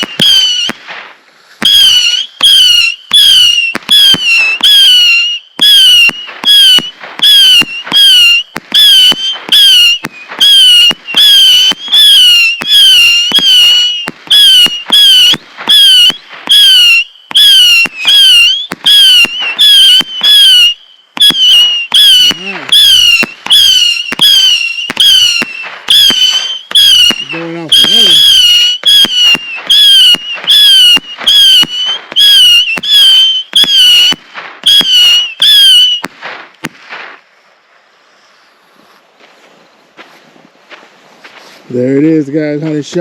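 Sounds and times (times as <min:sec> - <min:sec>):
whistling firework missiles: 0:00.0 - 0:43.0.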